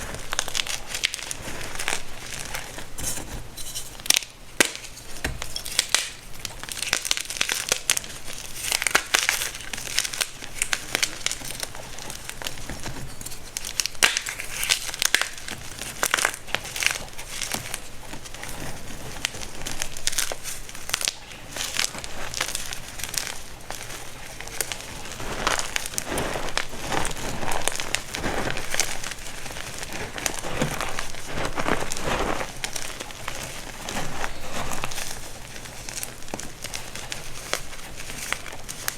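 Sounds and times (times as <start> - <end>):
baking soda crunching and crumbling: 0.0 - 38.9.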